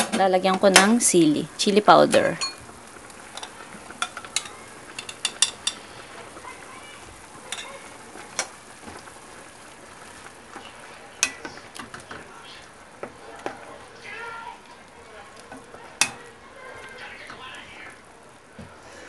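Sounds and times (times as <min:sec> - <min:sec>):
simmering soup hiss: 0:00.3 - 0:19.0.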